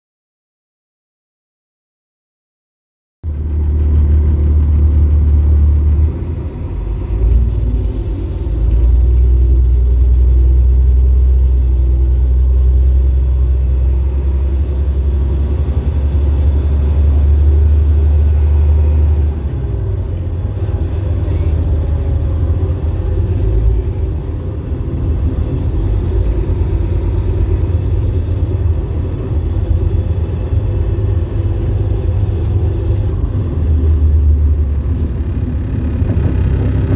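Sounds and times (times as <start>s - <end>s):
bus diesel engine rumbling: 3.2s - 36.9s.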